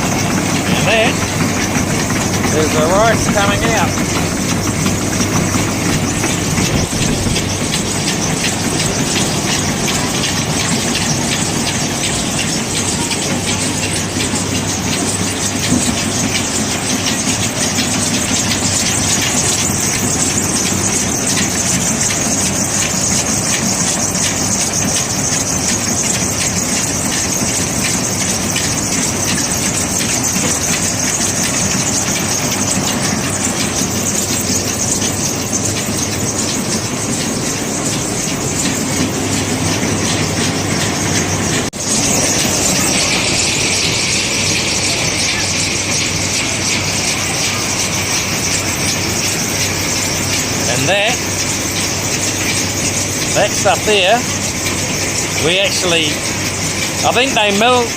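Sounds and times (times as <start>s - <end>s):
rattling hiss of rice: 0.0s - 57.9s
rice milling machine hum: 0.0s - 57.9s.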